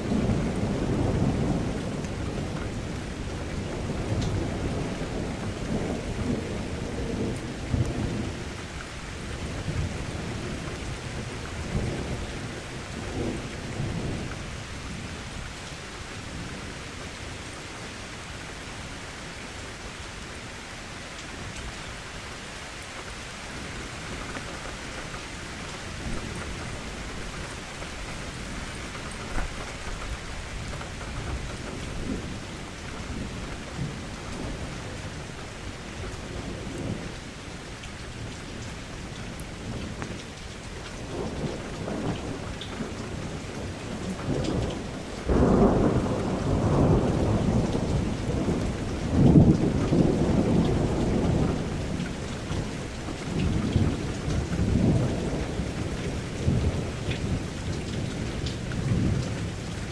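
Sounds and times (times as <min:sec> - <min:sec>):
thunder rumbling: 0:00.0 - 0:17.3, 0:23.5 - 0:37.3, 0:39.3 - 0:59.9
rain against a window: 0:00.0 - 0:59.9.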